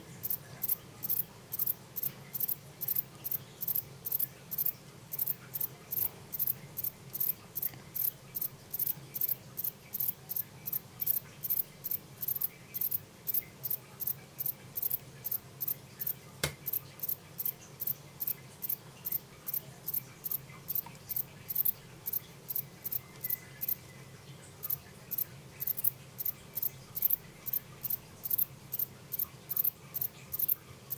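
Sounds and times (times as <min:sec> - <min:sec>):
katydid chirping: 0:00.2 - 0:23.8, 0:24.6 - 0:30.6.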